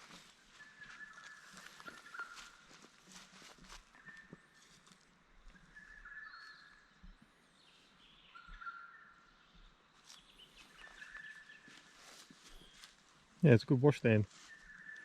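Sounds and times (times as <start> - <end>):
faint birdsong whistled notes: 0.0 - 2.7, 3.4 - 13.0, 14.3 - 15.0.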